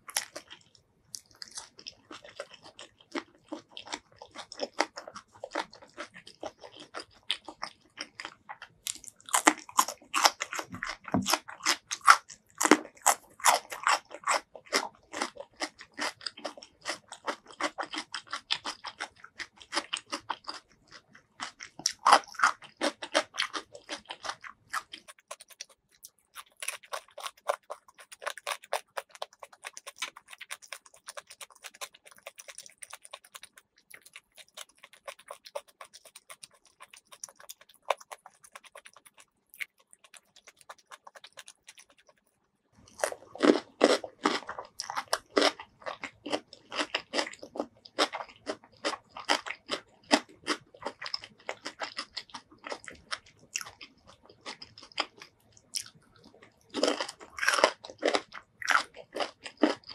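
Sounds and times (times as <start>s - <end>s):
chewing crunchy cucumber: 0.0s - 59.9s.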